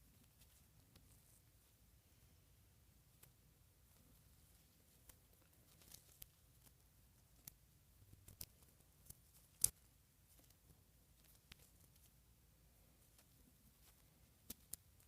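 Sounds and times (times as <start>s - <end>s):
faint clicks and rustles: 0.0s - 2.4s, 3.0s - 12.2s, 12.8s - 15.0s.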